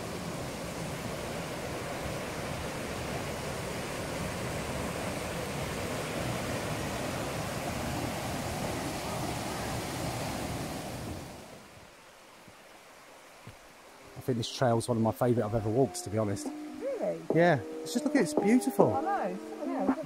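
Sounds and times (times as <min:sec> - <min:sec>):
stream rushing over waterfalls: 0:00.0 - 0:20.0.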